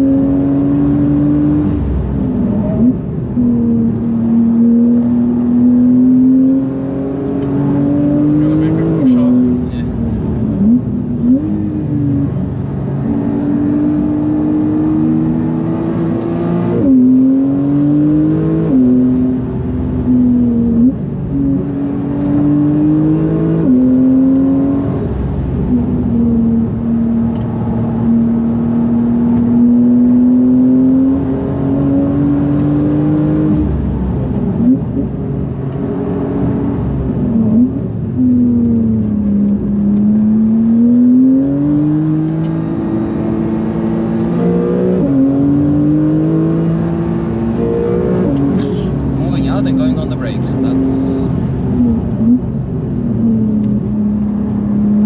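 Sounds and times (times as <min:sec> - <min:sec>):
turbocharged car engine accelerating: 0:00.0 - 0:55.0.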